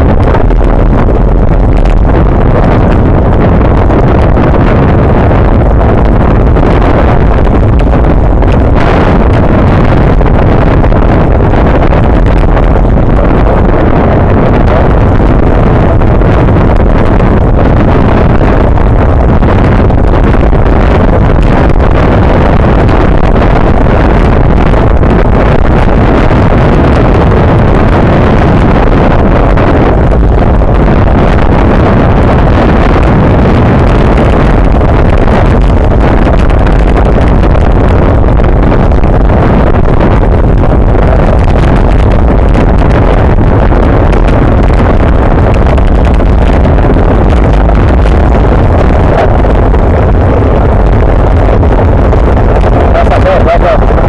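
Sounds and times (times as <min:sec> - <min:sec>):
wind rushing on microphone: 0:00.0 - 0:54.0.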